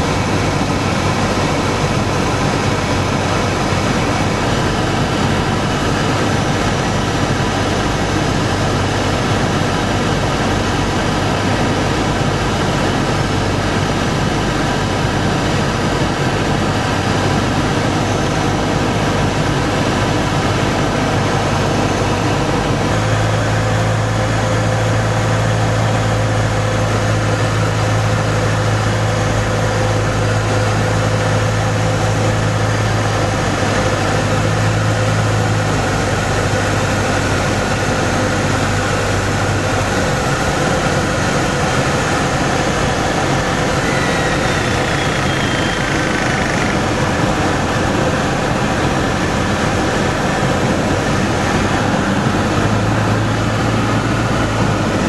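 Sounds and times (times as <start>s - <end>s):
light aircraft engine drone: 0.0s - 55.0s
low hum: 0.0s - 55.0s.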